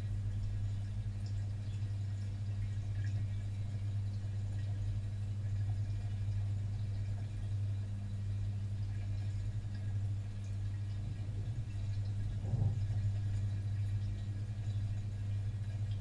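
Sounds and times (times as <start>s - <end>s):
aquarium filter pump humming: 0.0s - 16.0s
faint water sounds: 0.0s - 16.0s.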